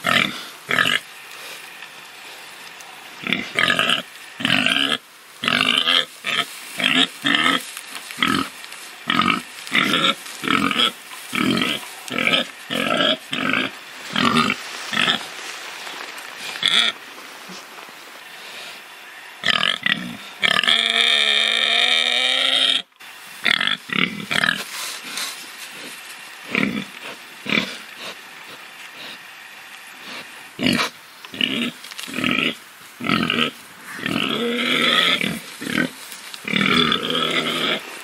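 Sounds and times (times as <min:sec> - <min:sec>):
pig grunting: 0:00.0 - 0:01.6, 0:02.8 - 0:15.2, 0:18.4 - 0:38.0
pig calling: 0:00.0 - 0:15.3, 0:18.2 - 0:38.0.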